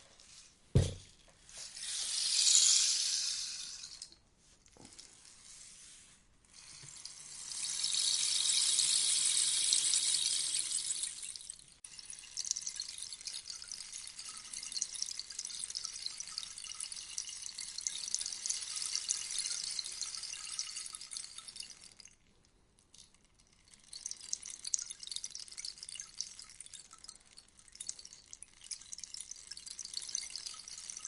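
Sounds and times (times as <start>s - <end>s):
rainstick pouring: 0.2s - 31.0s.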